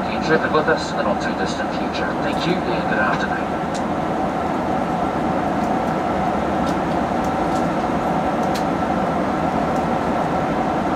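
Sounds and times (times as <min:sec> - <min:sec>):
airplane cabin airflow and engines: 0:00.0 - 0:10.9.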